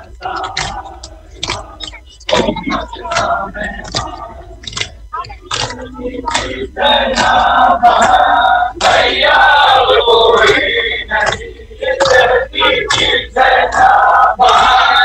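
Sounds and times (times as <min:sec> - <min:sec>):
crowd of men chanting: 0:00.0 - 0:15.0.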